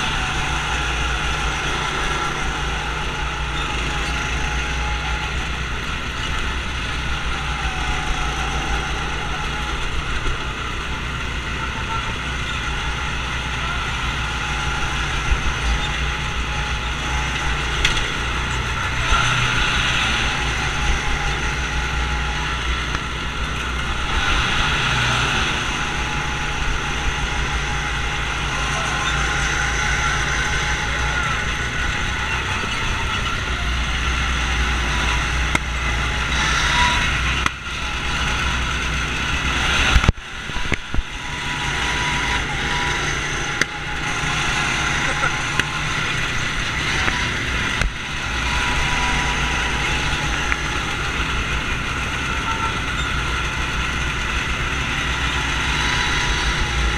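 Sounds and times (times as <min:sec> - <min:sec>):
go-kart engines droning: 0:00.0 - 0:56.9.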